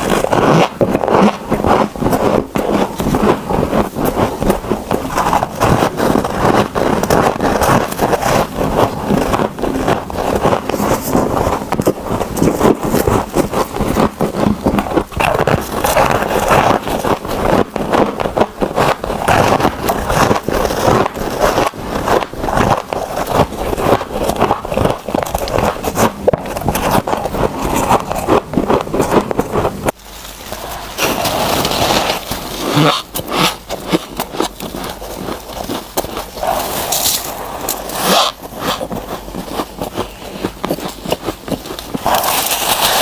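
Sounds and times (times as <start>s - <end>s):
chewing crunchy frost: 0.0s - 43.0s.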